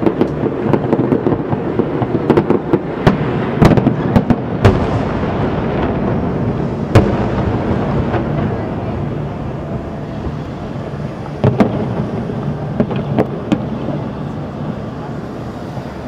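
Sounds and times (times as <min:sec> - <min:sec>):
background rumble: 0:00.0 - 0:16.0
fireworks bursting: 0:00.0 - 0:16.0.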